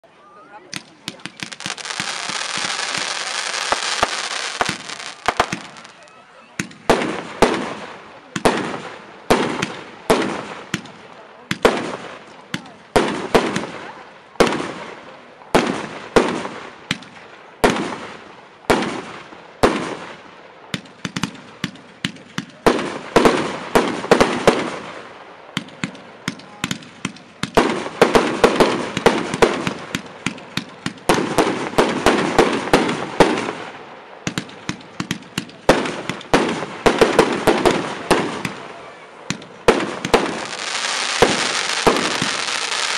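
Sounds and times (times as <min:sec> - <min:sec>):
firework crackle: 0:00.7 - 0:42.9
fireworks banging: 0:00.7 - 0:42.9.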